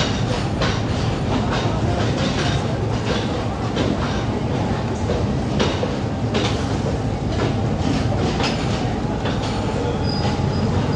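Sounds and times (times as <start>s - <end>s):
train running gear rumble: 0.0s - 10.9s
wheels clacking over rail joints: 0.0s - 10.9s.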